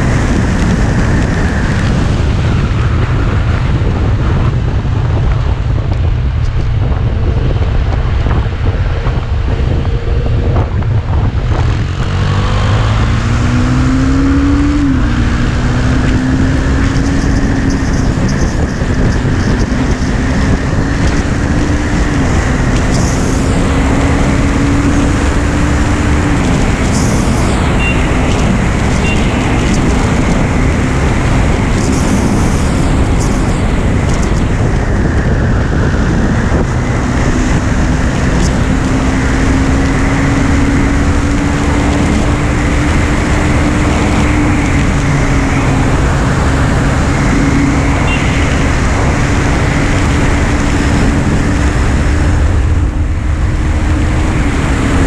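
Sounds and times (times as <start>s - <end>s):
motorcycle engine running: 0.0s - 55.0s
wind rush over microphone: 0.0s - 55.0s.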